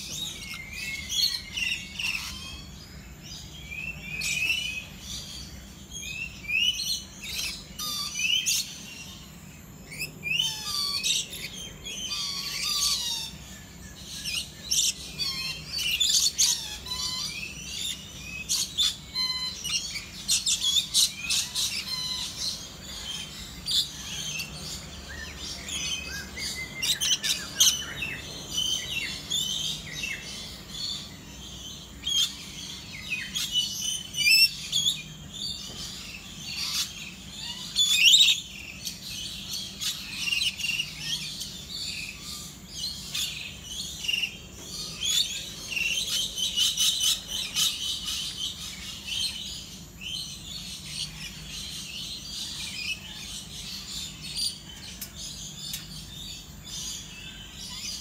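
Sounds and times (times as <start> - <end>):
lorikeets chirping and squeaking: 0.0 - 58.0.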